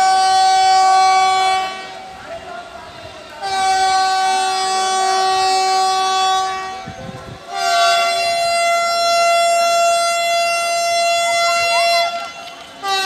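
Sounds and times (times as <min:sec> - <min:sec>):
train horn blasts: 0:00.0 - 0:02.2, 0:02.9 - 0:13.0.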